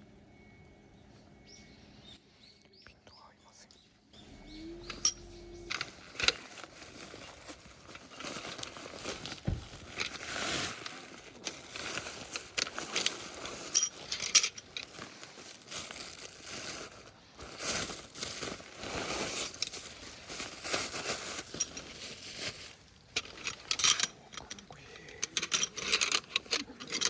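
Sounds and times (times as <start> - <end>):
rustling and crinkling: 4.3 - 27.0.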